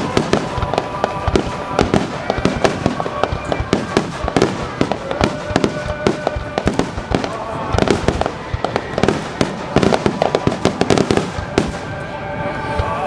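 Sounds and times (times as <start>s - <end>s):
fireworks shells bursting: 0.0s - 12.1s.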